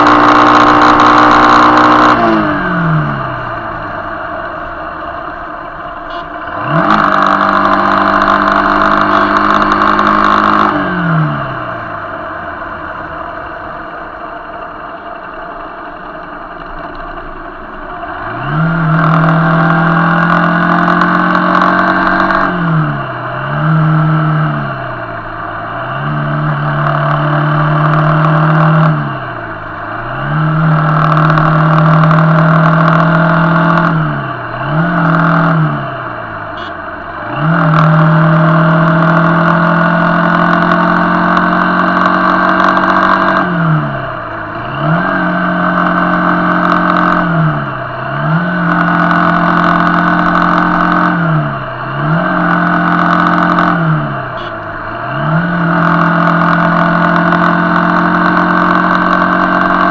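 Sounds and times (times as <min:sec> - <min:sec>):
motorcycle engine revving: 0:00.0 - 0:59.9
road and tyre noise: 0:00.0 - 0:59.9.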